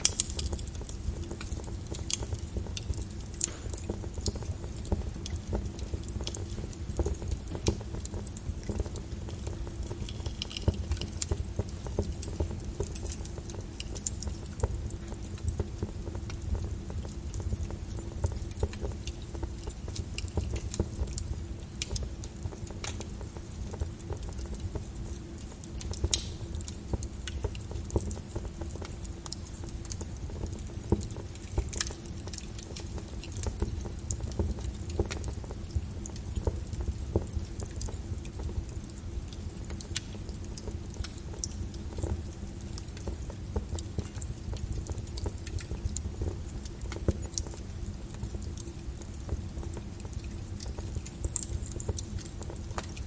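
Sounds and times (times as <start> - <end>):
low rumble of fire: 0.0 - 53.0
wood fire crackling and popping: 0.0 - 53.0.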